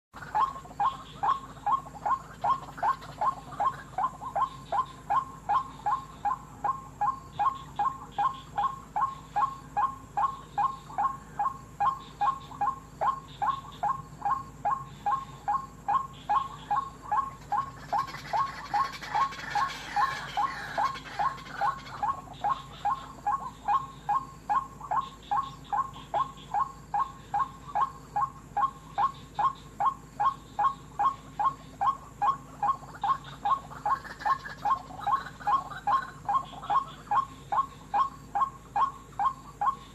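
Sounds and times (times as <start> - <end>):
waterhen wak-wak call: 0.2 - 39.9.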